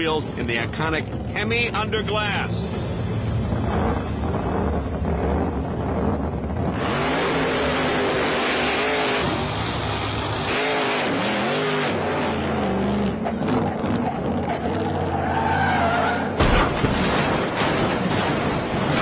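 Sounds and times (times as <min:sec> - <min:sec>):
car engine revving: 0:00.0 - 0:16.0
engine and tyre rush: 0:00.0 - 0:19.0.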